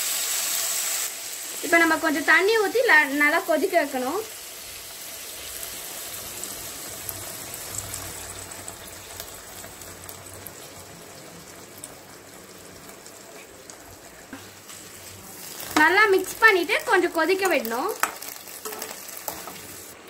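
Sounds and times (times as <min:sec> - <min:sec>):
food sizzling and bubbling: 0:00.0 - 0:20.0.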